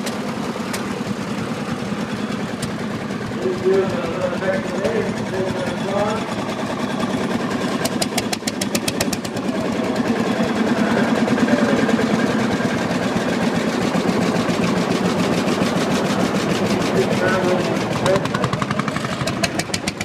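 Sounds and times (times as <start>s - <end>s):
tractor engine knocking: 0.0s - 20.0s.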